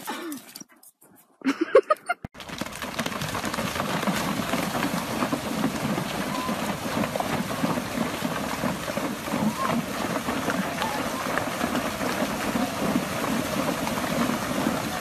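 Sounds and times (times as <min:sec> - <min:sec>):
horses galloping hoofbeats: 0:02.4 - 0:15.0
water splashing: 0:02.4 - 0:15.0.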